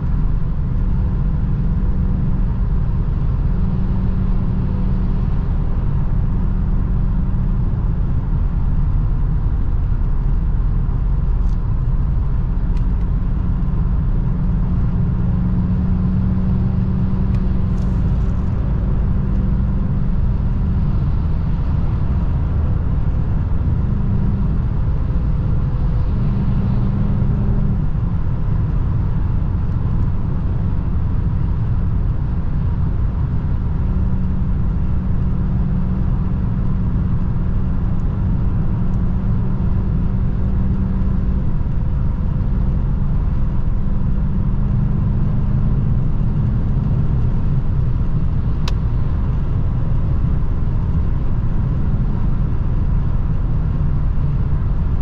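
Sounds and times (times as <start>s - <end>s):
car engine droning: 0.0s - 55.0s
road and wind noise: 0.0s - 55.0s.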